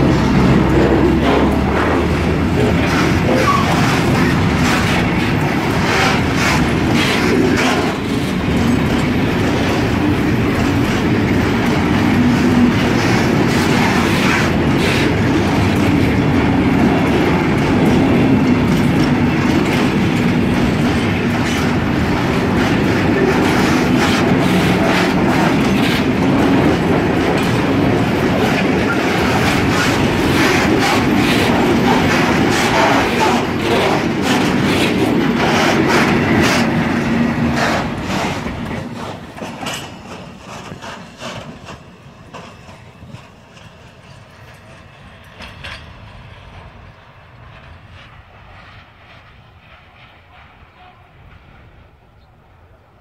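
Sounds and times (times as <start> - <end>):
freight wagons rumbling: 0.0 - 46.6
train wheels clicking over rail joints: 0.0 - 51.9.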